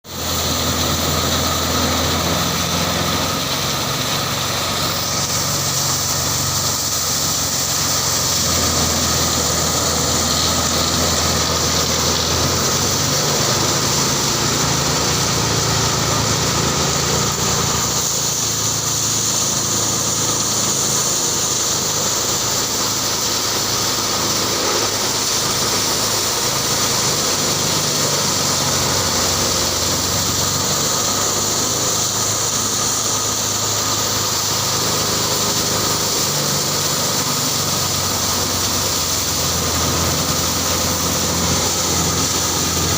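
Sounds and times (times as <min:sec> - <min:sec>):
low engine hum: 0:00.1 - 0:42.9
threshing drum hiss and whir: 0:00.1 - 0:42.9.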